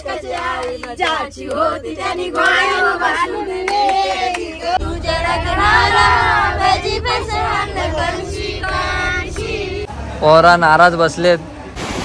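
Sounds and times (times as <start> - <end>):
people singing together: 0.0 - 10.0
low steady rumble: 1.2 - 11.2.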